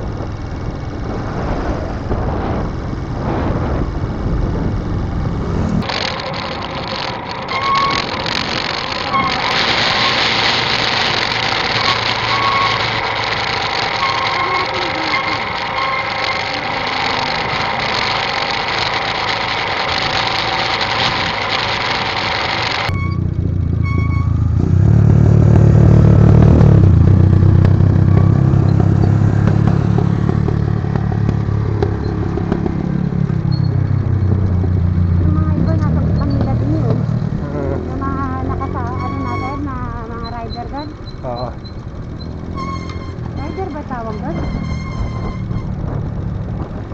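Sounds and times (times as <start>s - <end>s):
motorcycle engine hum: 0.0s - 46.9s
wind and road noise: 0.0s - 46.9s.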